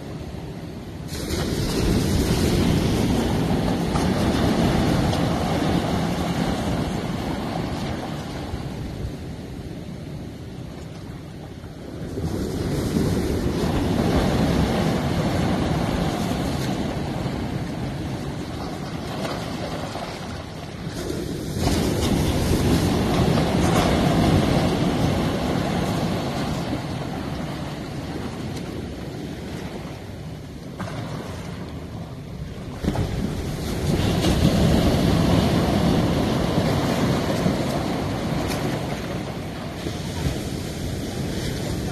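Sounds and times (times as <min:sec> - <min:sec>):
surf washing over boulders: 0:00.0 - 0:41.9.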